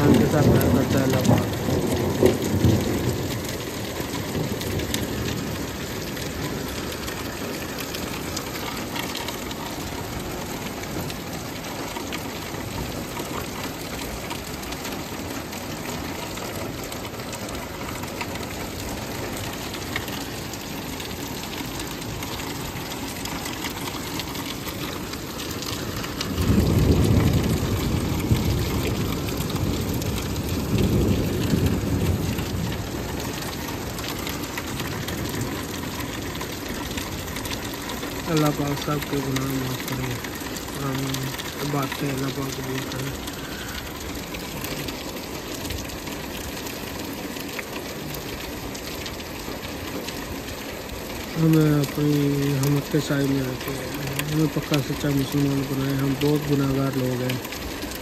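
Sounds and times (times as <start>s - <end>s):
heavy rain on street and cars: 0.0s - 58.0s.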